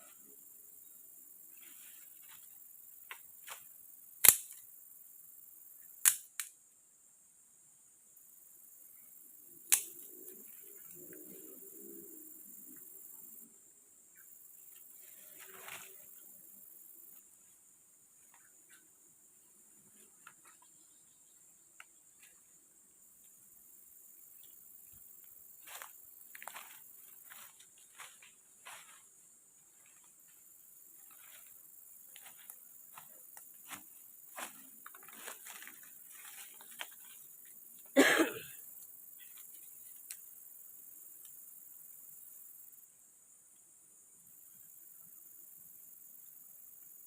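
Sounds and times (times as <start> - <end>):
insect chorus: 0.0 - 47.0.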